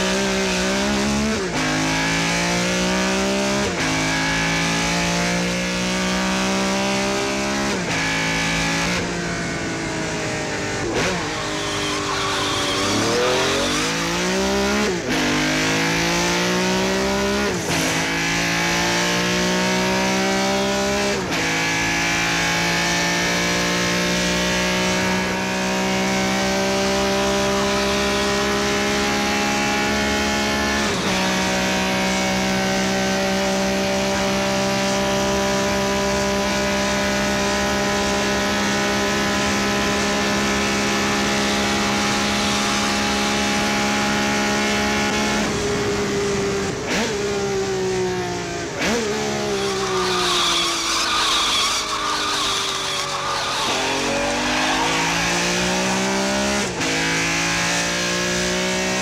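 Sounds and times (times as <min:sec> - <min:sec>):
car engine at high revs: 0:00.0 - 0:59.0.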